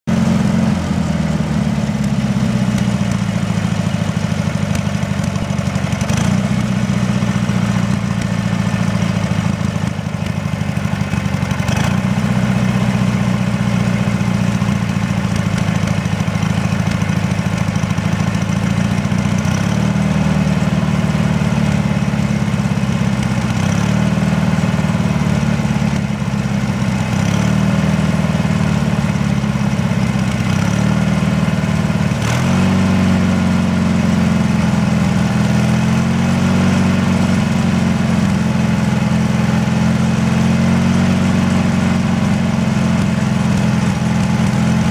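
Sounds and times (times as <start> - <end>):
garden tractor engine idling roughly: 0.1 - 44.9.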